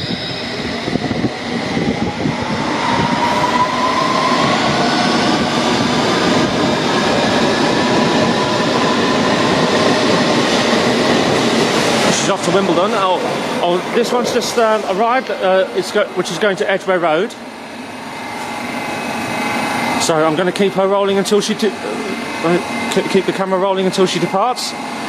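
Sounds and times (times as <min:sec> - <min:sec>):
train traction motors whining: 0:00.0 - 0:25.0
train wheel and track noise: 0:00.0 - 0:25.0.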